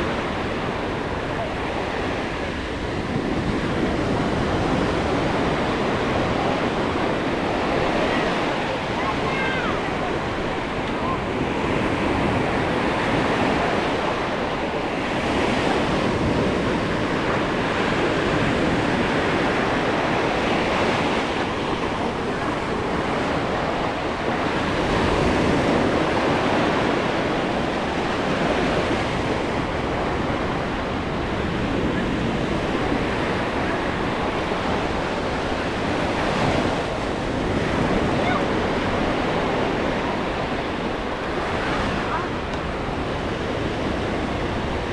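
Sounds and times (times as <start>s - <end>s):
small waves washing onto sand: 0.0s - 44.9s
wind on microphone: 0.0s - 44.9s.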